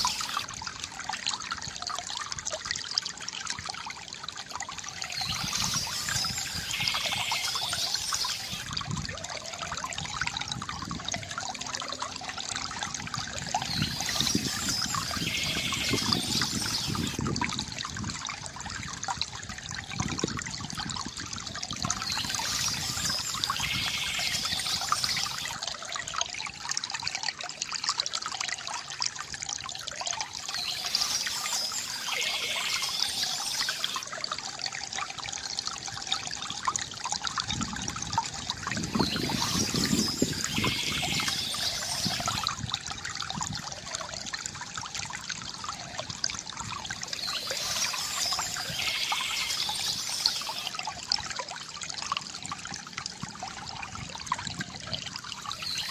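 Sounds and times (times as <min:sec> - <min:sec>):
water trickling from fountain spout: 0:00.0 - 0:55.9.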